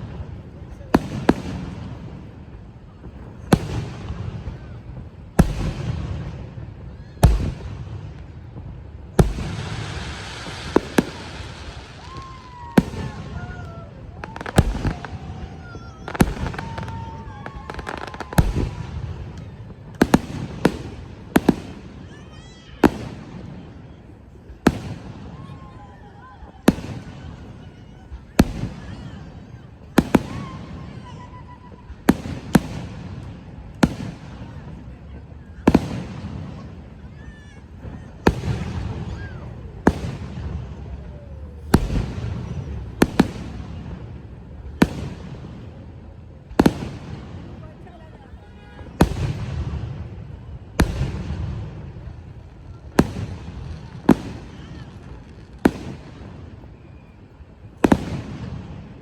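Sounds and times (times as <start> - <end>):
fireworks bangs: 0.0 - 59.0
low rumble of fireworks bursts: 0.0 - 59.0.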